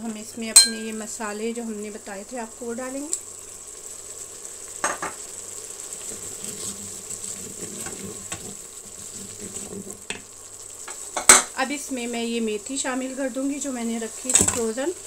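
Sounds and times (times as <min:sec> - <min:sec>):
paste sizzling in a pot: 0:00.0 - 0:15.0.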